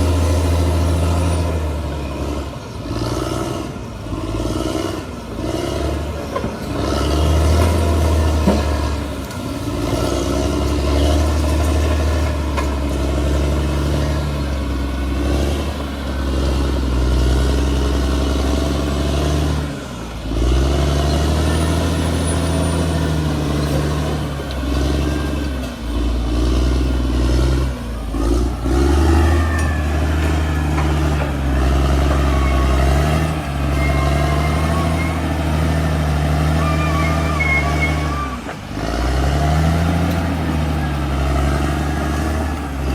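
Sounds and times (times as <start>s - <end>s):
bulldozer engine under load: 0.0s - 42.9s.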